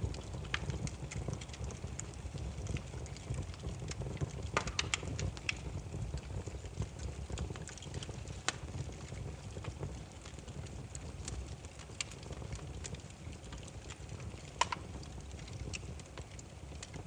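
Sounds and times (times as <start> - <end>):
rumble of burning logs: 0.0 - 17.0
wood fire pops and snaps: 0.0 - 17.0.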